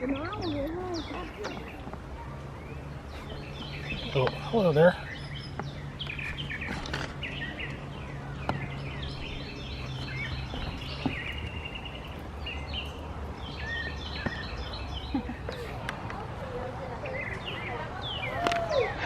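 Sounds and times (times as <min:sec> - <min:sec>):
small birds chirping and trilling: 0:00.0 - 0:19.0.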